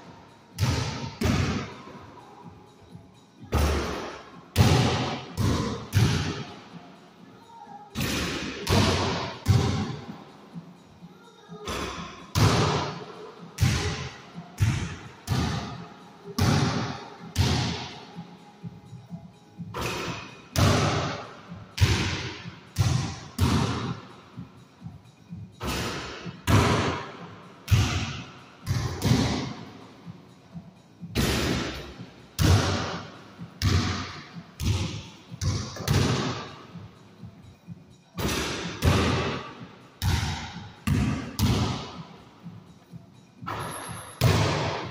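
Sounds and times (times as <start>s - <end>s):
basketball bouncing with echo: 0.5s - 6.6s, 7.9s - 10.7s, 11.5s - 29.8s, 30.5s - 42.6s, 43.4s - 44.9s.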